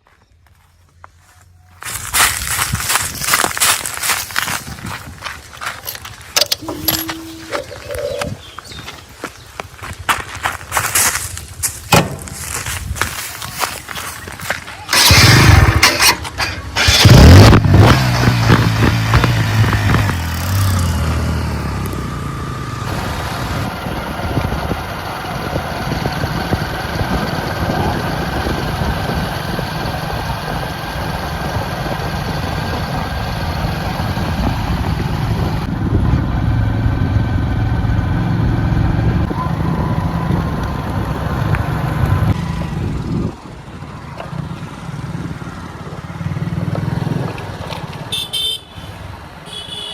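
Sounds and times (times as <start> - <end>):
heavy diesel engine under load: 5.8 - 8.5, 11.6 - 49.4.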